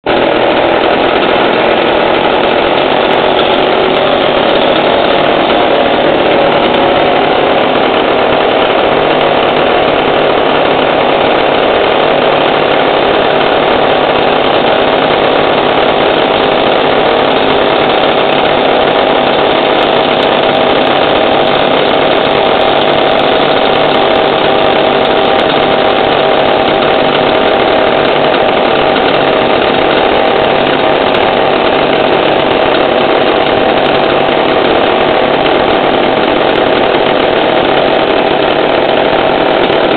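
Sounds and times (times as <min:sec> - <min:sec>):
chainsaw engines running: 0:00.0 - 0:39.9.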